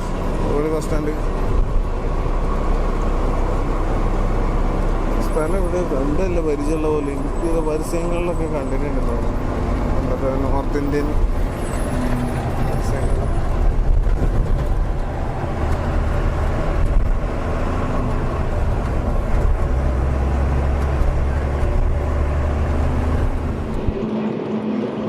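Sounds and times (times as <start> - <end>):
lorry engine hum: 0.0 - 25.0
road noise: 0.0 - 25.0.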